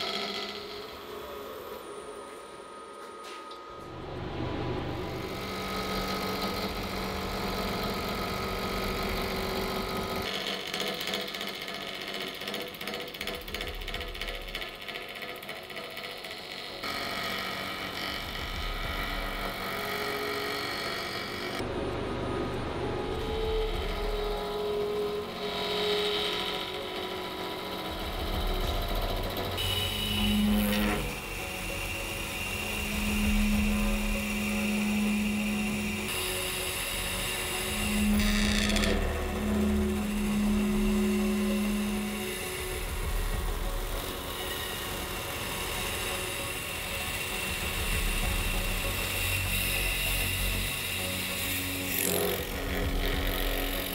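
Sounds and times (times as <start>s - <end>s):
wood lathe gouge cutting: 0.0s - 2.2s, 3.9s - 53.9s.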